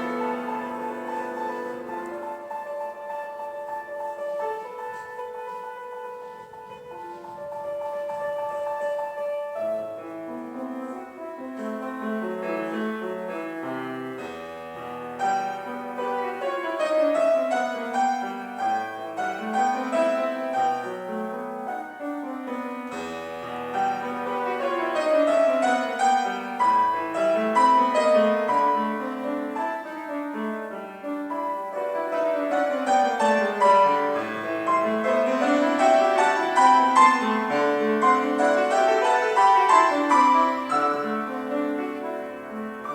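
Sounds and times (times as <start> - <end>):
solo piano piece: 0.0 - 42.9.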